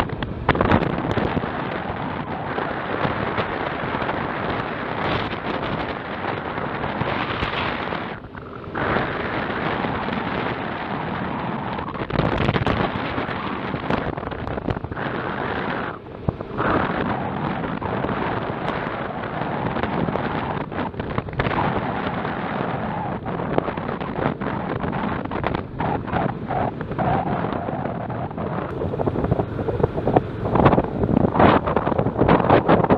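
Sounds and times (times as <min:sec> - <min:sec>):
strong wind buffeting microphone: 0:00.0 - 0:32.9.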